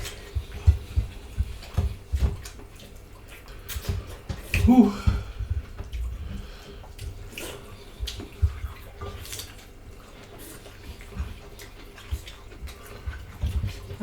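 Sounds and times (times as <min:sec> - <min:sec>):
wet chewing: 0:00.0 - 0:14.0.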